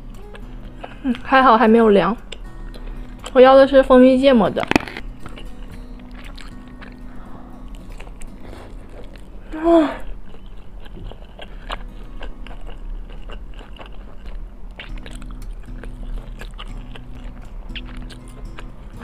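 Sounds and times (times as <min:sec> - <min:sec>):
crunchy chewing: 0:02.2 - 0:03.4, 0:04.5 - 0:19.0.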